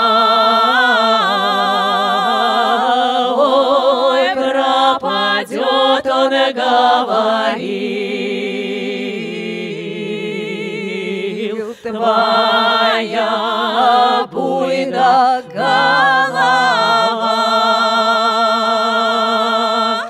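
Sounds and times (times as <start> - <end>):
women singing in harmony: 0.0 - 20.0.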